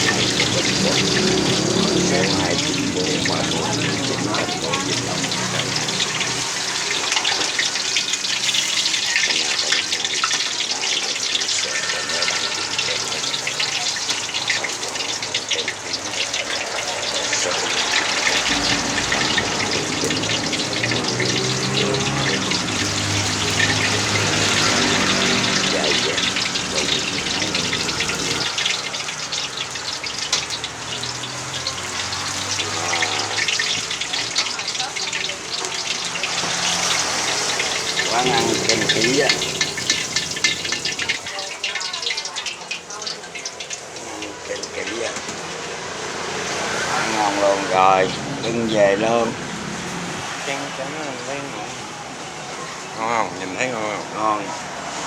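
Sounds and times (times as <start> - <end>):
deep frying sizzle and crackling: 0.0 - 55.0.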